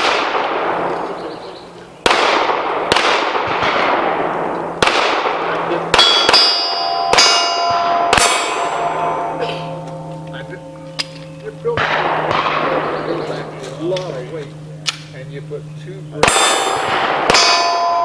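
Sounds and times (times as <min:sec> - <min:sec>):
pistol shots with echo: 0:00.0 - 0:18.0
steel plates ringing: 0:03.5 - 0:18.0.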